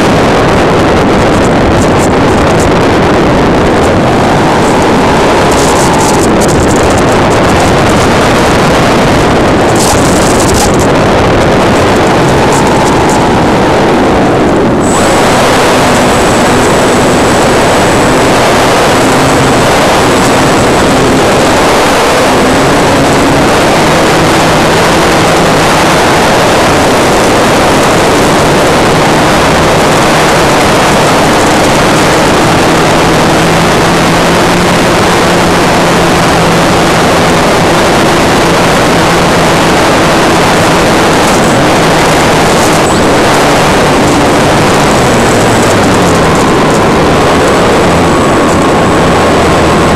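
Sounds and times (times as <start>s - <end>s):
model plane motor and propeller hum: 0.0s - 49.9s
wind buffeting microphone: 0.0s - 49.9s.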